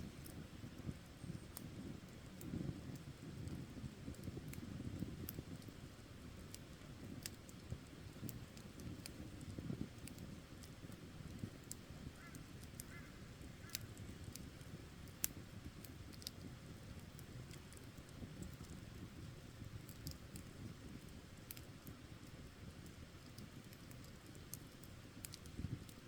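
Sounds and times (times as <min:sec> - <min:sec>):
burning wood crackles and pops: 0:00.0 - 0:26.0
campfire flame rushing: 0:00.0 - 0:26.0.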